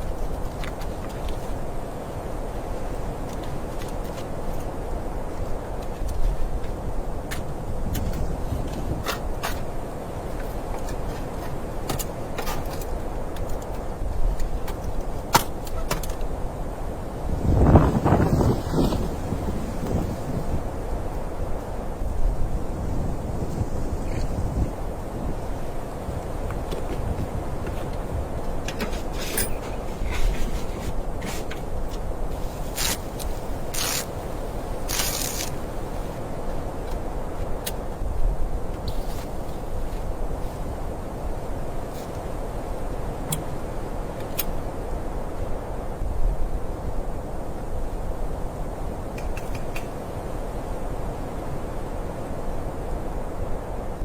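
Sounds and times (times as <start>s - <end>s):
wind rumble: 0.0s - 54.0s.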